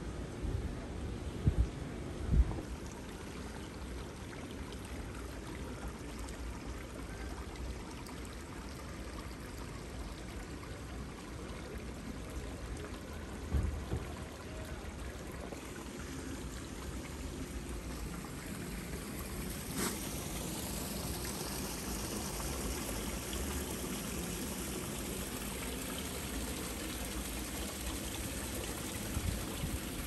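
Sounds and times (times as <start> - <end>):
water rushing along gutter: 2.6 - 30.0.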